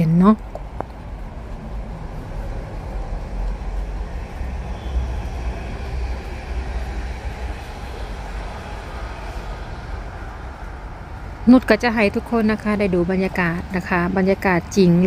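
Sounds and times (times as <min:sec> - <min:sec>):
rail noise: 0:00.0 - 0:15.0
train rumbling: 0:00.0 - 0:15.0.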